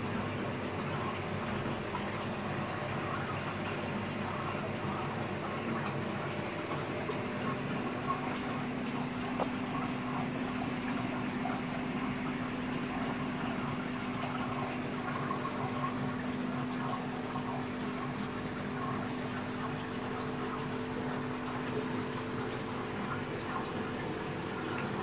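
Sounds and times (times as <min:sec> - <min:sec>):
aquarium air bubbling: 0:00.0 - 0:25.0.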